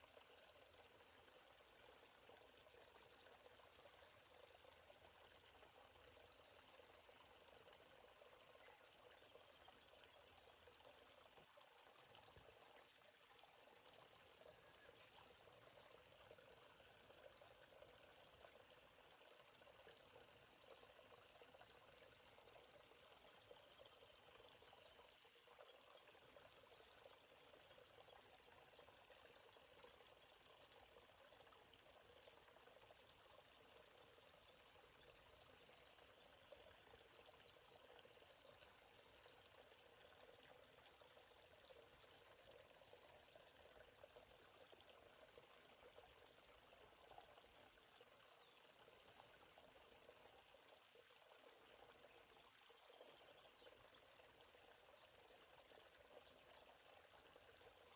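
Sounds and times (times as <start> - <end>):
crickets chirping chorus: 0.0 - 57.9
small stream rushing: 0.0 - 57.9.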